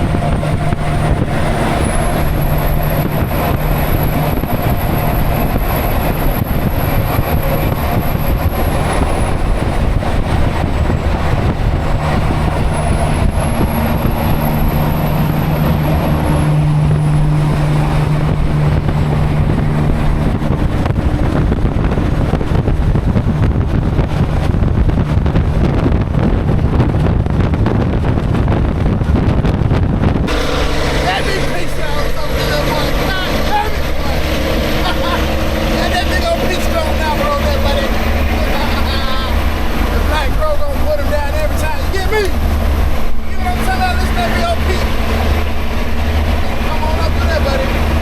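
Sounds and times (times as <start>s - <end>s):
high whine gliding: 0.0s - 48.0s
road noise: 0.0s - 48.0s
truck engine droning: 0.0s - 48.0s.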